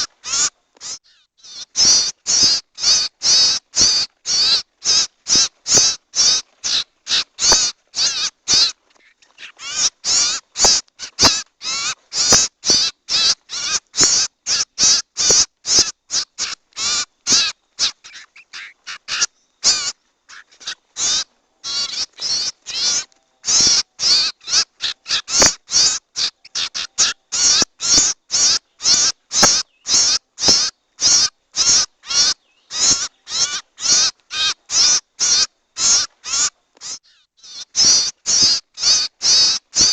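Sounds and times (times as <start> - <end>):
harsh raspy bird calls: 0.0 - 39.9.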